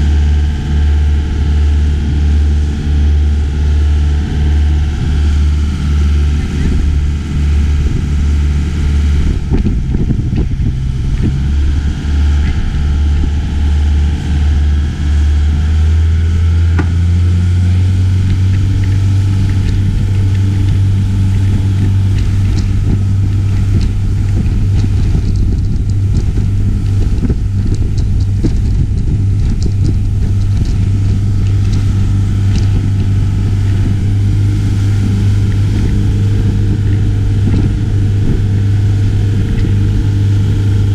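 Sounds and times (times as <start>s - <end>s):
motorboat engine running: 0.0s - 40.9s
water noise: 0.0s - 40.9s
wind noise: 0.0s - 40.9s.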